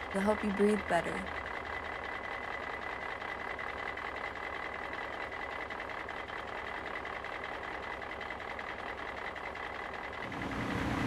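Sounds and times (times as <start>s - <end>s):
pulsing machine drone: 0.0s - 11.0s.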